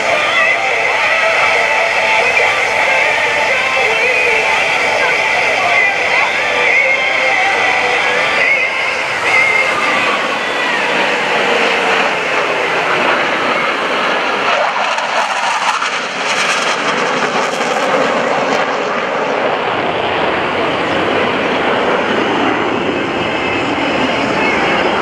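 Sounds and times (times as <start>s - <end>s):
jet roar: 0.0s - 25.0s.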